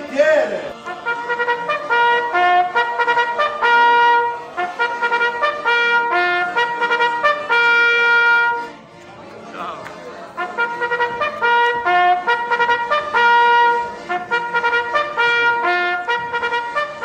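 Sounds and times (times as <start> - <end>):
trumpet fanfare: 0.0 - 8.8, 9.6 - 17.0.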